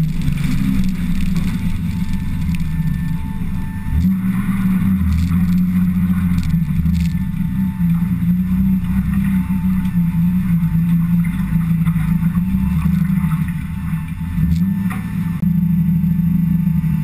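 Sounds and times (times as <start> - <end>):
car engine running: 0.0 - 17.0
tyre and road noise: 0.0 - 17.0.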